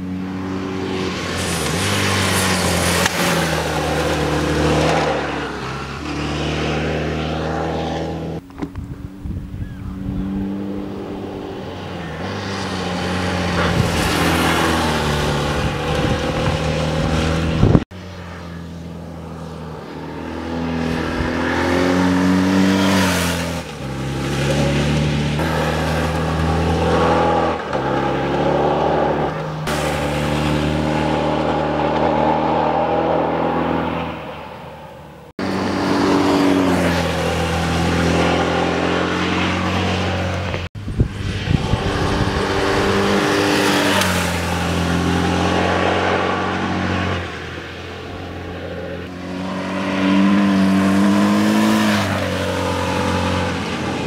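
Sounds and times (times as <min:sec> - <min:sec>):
motorcycle engine passing by: 0:00.0 - 0:34.7, 0:35.4 - 0:54.0.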